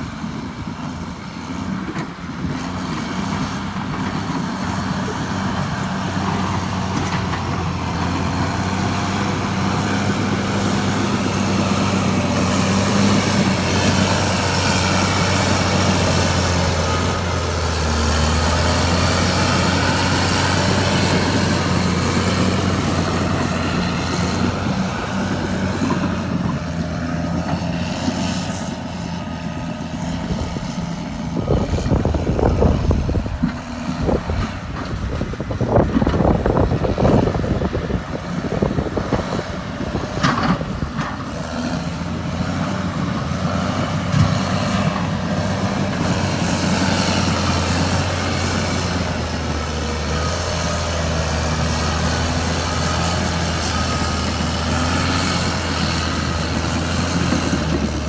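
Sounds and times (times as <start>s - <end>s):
bulldozer diesel engine running: 0.0s - 58.0s
louder rougher engine noise: 0.0s - 58.0s.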